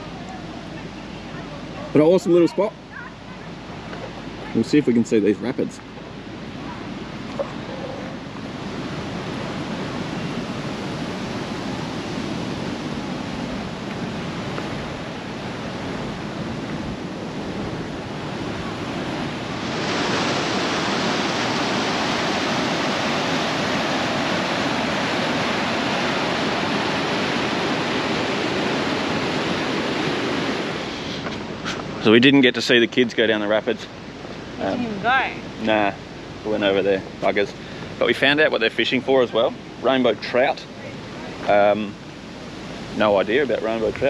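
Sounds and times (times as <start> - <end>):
river rapids rushing: 0.0 - 43.9.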